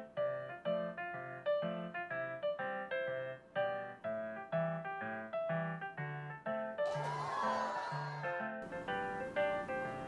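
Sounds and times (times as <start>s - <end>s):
bouncy keyboard tune: 0.0s - 10.0s.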